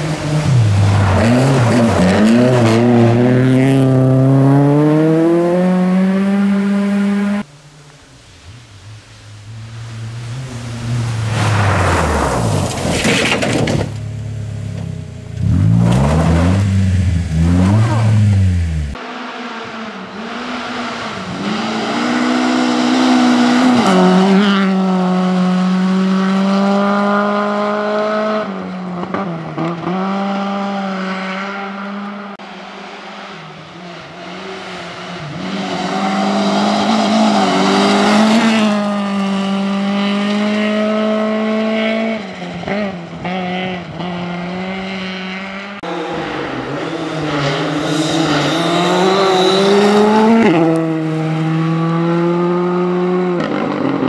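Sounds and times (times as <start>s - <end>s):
rally car engines revving: 0.0s - 7.8s, 8.6s - 54.0s.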